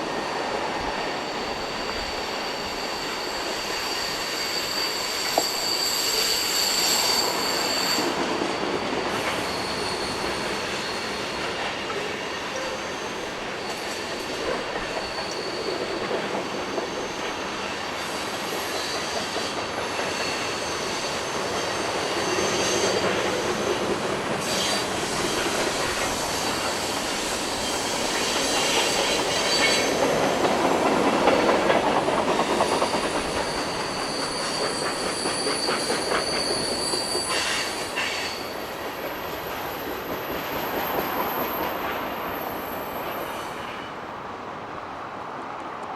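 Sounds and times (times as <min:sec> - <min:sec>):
rumble and clatter of train cars: 0:00.0 - 0:45.9
train wheels squealing on rails: 0:00.0 - 0:45.9.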